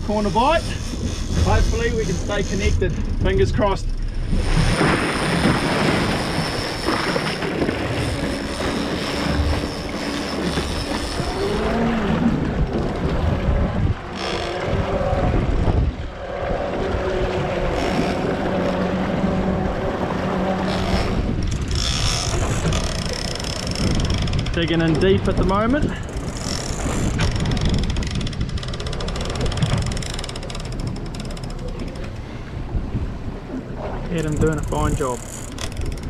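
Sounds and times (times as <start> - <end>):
wind buffeting microphone: 0.0 - 31.1, 31.7 - 36.0
outboard motor running: 0.0 - 36.0
water rushing along hull: 0.0 - 36.0.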